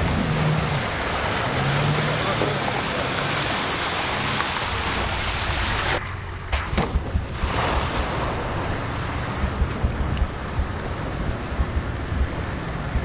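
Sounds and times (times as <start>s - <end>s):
low thuds of wind buffeting: 0.0s - 13.0s.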